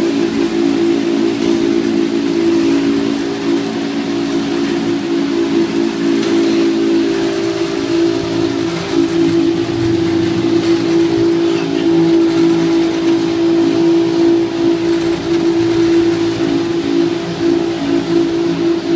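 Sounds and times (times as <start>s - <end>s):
boat engine droning: 0.0s - 18.9s.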